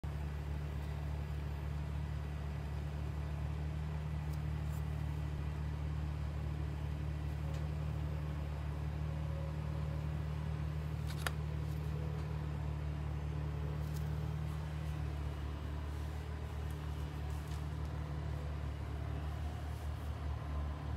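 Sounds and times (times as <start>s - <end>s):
low mechanical hum: 0.0s - 20.9s.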